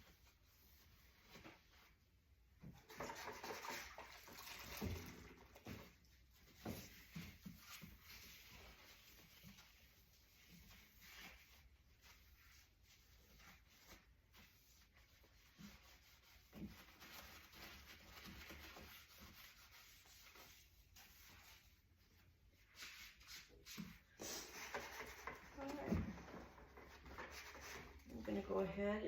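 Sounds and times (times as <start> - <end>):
scrubbing inside dishwasher tub: 2.6 - 22.0, 22.6 - 28.7.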